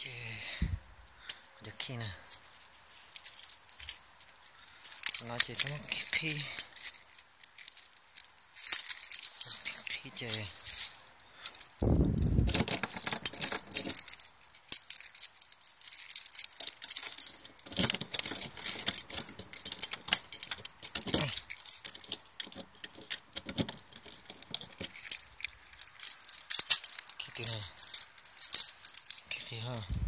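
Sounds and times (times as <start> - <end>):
keys jangling against metal lock: 3.1 - 4.0, 4.7 - 30.0.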